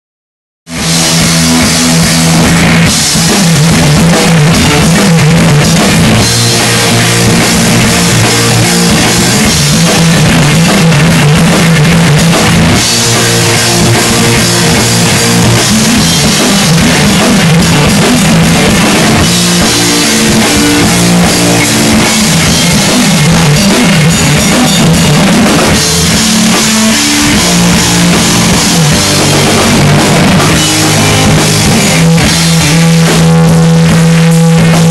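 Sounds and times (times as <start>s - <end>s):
drum kit with cymbals: 0.7s - 34.9s
electric guitar: 0.7s - 34.9s
rock band playing: 0.7s - 34.9s.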